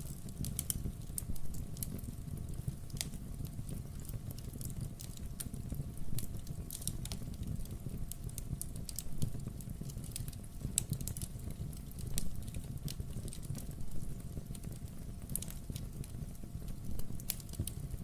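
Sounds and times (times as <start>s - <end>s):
fire crackling and popping: 0.0s - 18.0s
fireplace logs burning: 0.0s - 18.0s.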